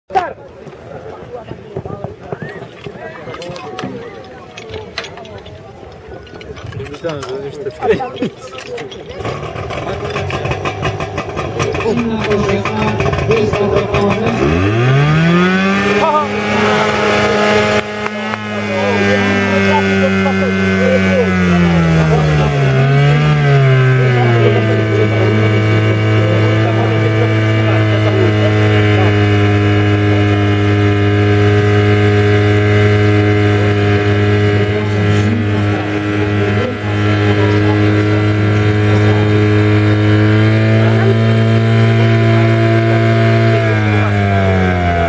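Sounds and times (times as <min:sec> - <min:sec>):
pump engine droning: 0:02.6 - 0:45.0.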